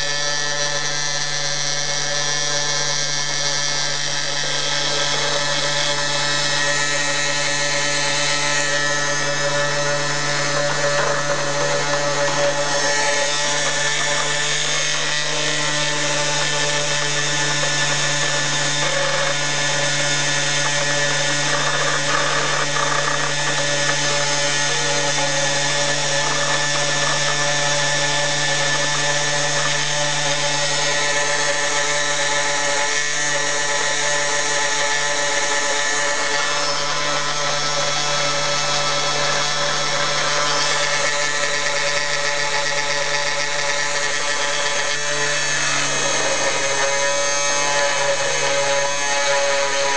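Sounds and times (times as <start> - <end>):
spindle motor whining: 0.0 - 49.9.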